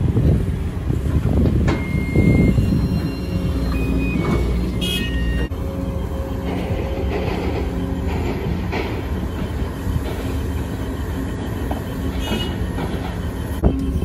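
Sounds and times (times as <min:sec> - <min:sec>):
excavator diesel engine under load: 0:00.0 - 0:14.0.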